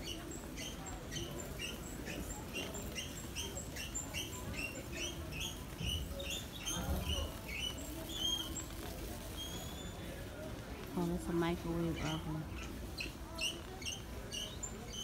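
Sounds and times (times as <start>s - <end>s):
shopping cart wheel squeaking: 0.0s - 15.0s.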